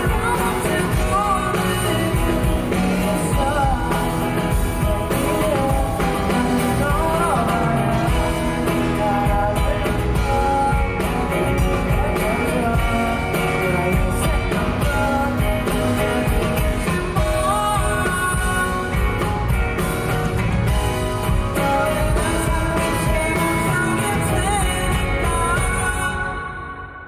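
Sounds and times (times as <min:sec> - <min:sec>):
pop-rock band playing: 0:00.0 - 0:27.0.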